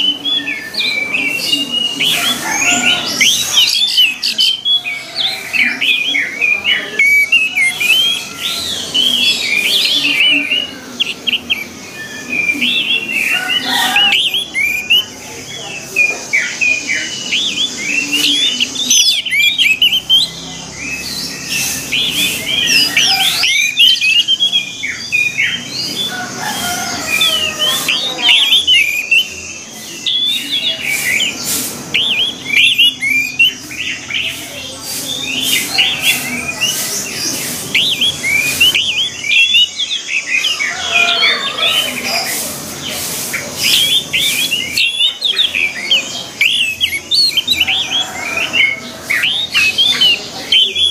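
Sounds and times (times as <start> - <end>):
thrushes singing: 0.0 - 50.9.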